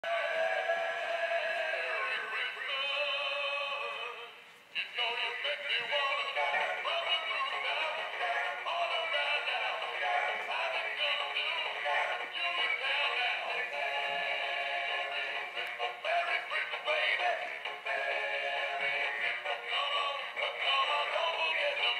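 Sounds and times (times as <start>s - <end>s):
song with sung vocal: 0.0s - 21.9s.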